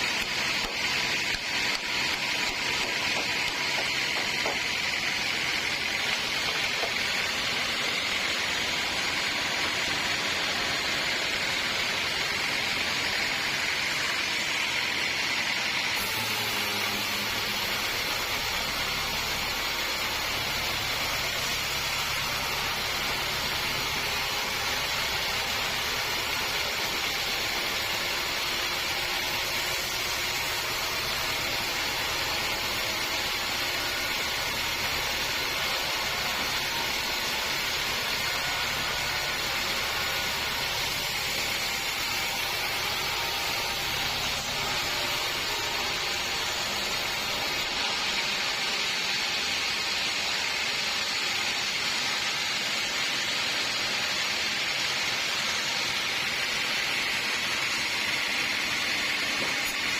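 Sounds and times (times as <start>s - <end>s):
sawmill machinery sawing log: 0.0s - 59.9s.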